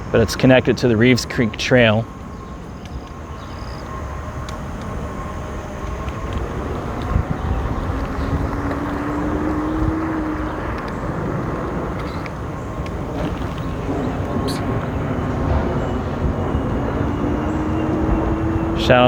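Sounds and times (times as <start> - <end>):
low hum: 0.0 - 19.0
wind on microphone: 2.0 - 19.0.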